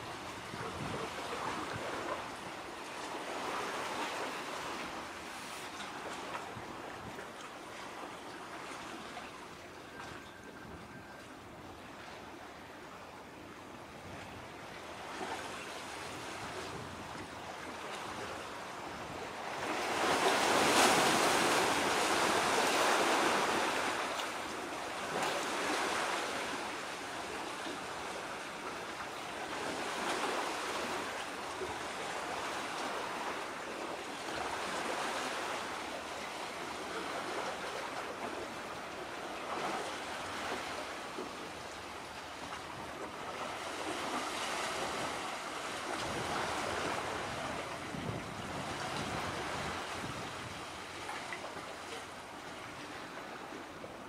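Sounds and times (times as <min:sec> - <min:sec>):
waves washing on shore: 0:00.0 - 0:10.1, 0:14.1 - 0:54.0
wind: 0:00.0 - 0:54.0.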